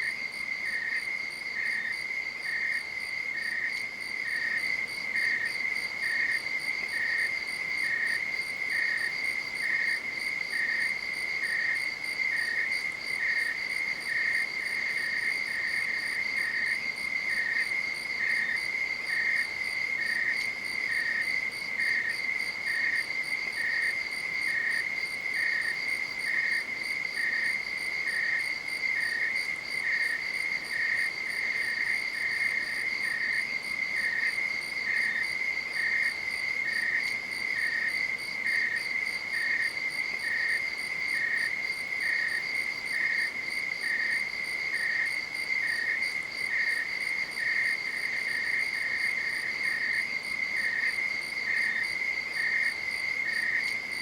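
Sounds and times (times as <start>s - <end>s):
insect chirping: 0.0s - 54.0s.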